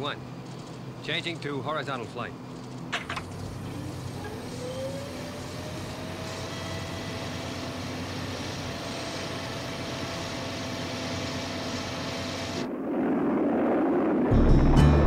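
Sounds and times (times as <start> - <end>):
jet engine whine: 2.3 - 14.6.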